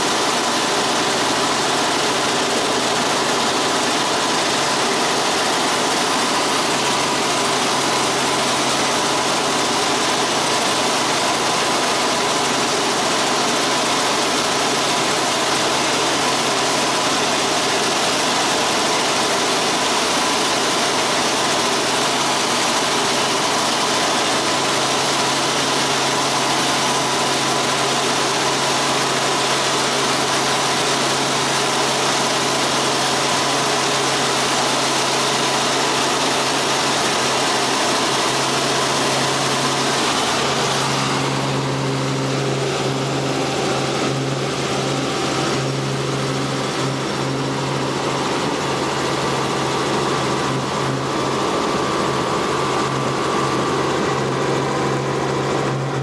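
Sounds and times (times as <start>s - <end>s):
helicopter engine and rotors droning: 0.0s - 56.0s.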